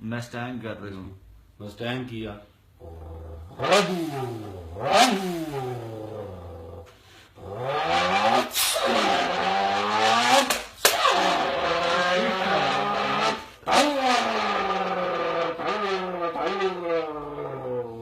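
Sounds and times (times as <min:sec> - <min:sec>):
person imitating engine revving: 0:02.8 - 0:18.0.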